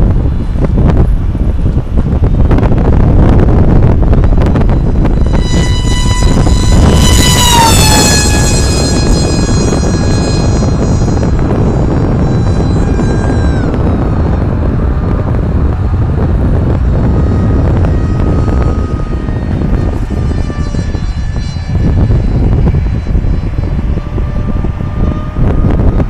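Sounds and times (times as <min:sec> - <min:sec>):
electric motor and propeller whining: 0:00.0 - 0:26.0
wind rumble on microphone: 0:00.0 - 0:26.0.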